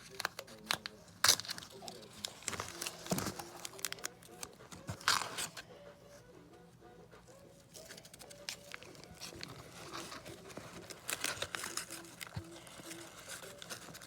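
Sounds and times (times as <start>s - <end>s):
cardboard crinkling and rustling: 0.0s - 5.6s, 7.8s - 14.0s
tape tearing crackles: 0.0s - 5.6s, 7.8s - 14.0s.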